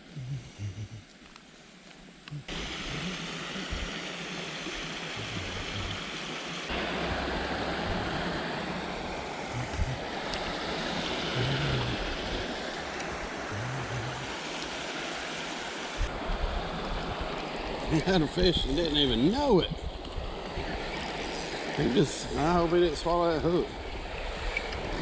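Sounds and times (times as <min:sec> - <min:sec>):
flowing water rushing: 0:02.5 - 0:25.0.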